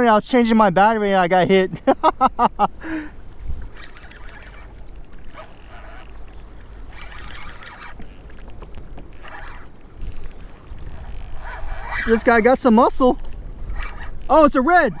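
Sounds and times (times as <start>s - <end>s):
wind rumble on microphone: 1.7s - 15.0s
water washing against kayak: 2.5s - 15.0s.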